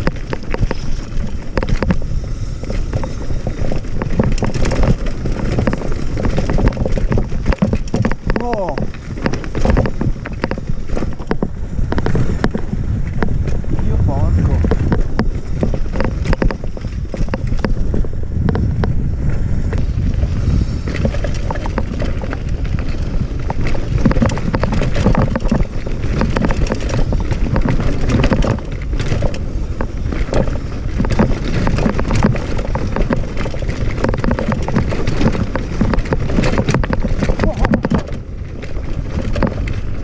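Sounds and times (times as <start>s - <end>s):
bike clattering over bumps: 0.0s - 40.0s
tyres crunching over gravel: 0.0s - 40.0s
wind buffeting microphone: 0.0s - 40.0s.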